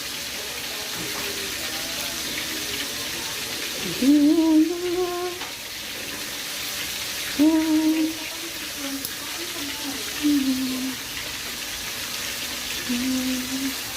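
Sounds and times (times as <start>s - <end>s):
chicken frying in hot oil: 0.0s - 13.9s.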